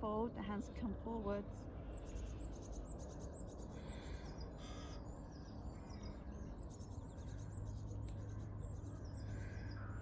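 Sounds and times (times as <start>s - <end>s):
small birds chirping: 0.1s - 10.0s.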